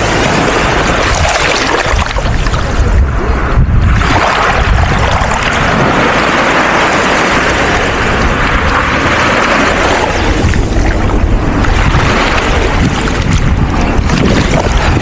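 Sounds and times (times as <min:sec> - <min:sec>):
sea water surging in shallows: 0:00.0 - 0:15.0
wind buffeting microphone: 0:00.0 - 0:15.0.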